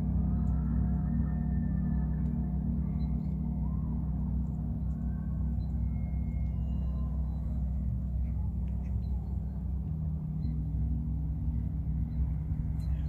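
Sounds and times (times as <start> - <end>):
deep resonating drone: 0.0 - 13.0.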